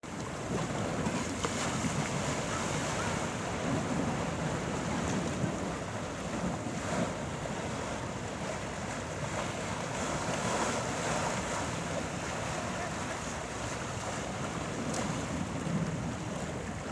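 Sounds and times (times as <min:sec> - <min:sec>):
sea waves: 0:00.0 - 0:16.9.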